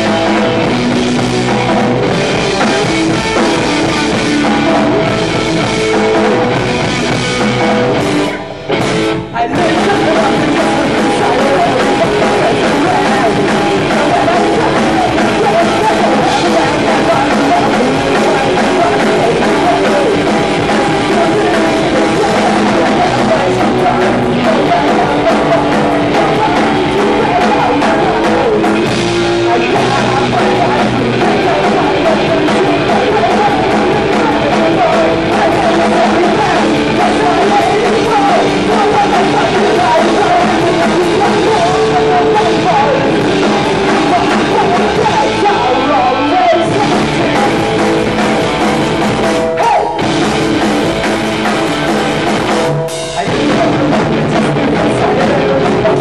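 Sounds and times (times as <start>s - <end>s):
bass: 0.0s - 56.0s
drum kit: 0.0s - 56.0s
electric guitar: 0.0s - 56.0s
man singing: 0.0s - 56.0s.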